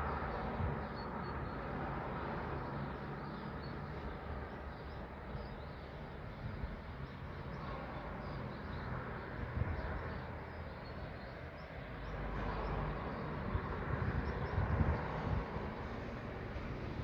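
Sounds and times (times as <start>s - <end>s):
small birds chirping: 0.3s - 16.6s.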